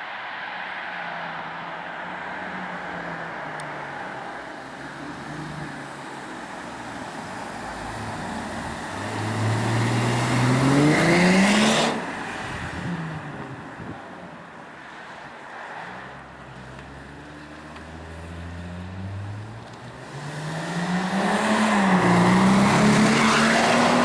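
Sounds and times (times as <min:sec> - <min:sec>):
car engine idling and revving: 0:01.4 - 0:24.0.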